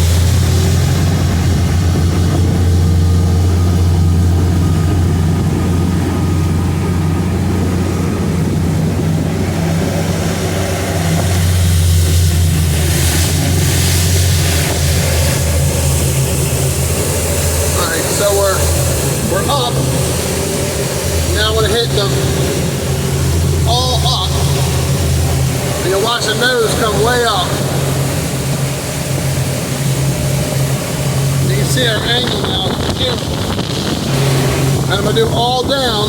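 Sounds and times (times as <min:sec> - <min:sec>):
outboard engines running hard: 0:00.0 - 0:36.0.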